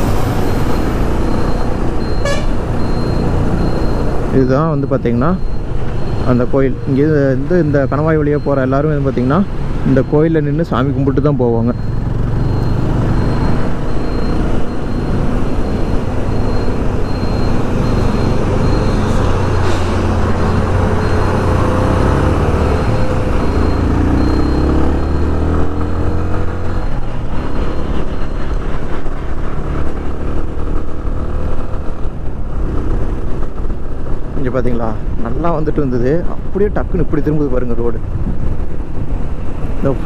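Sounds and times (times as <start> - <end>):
heavy traffic: 0.0 - 40.0
wind and road noise: 0.0 - 40.0.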